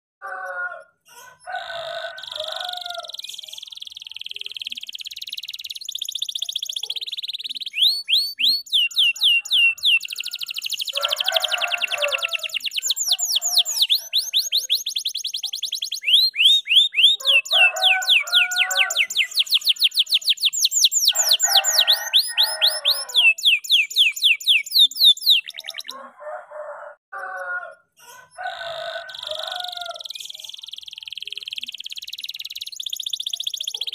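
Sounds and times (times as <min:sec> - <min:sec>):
canary singing trills: 0:00.3 - 0:26.1, 0:27.3 - 0:33.9.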